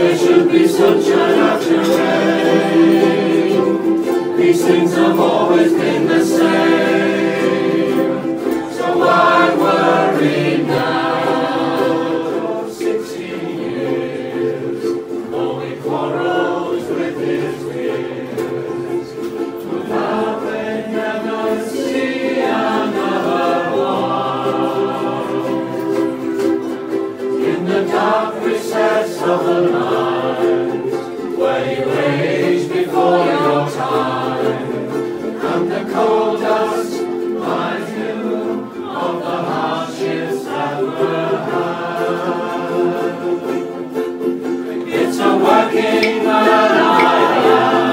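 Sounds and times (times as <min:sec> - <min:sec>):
group singing: 0:00.0 - 0:47.9
ukuleles strumming: 0:00.0 - 0:47.9.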